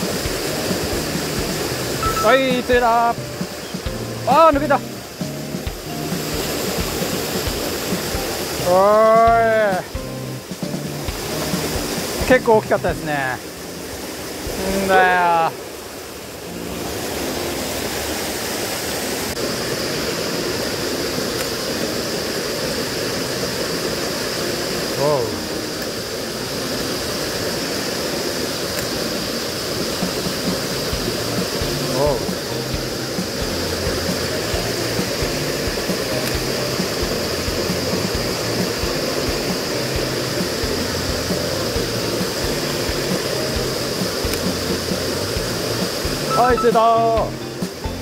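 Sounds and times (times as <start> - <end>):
creek water rushing over rocks: 0.0 - 48.0.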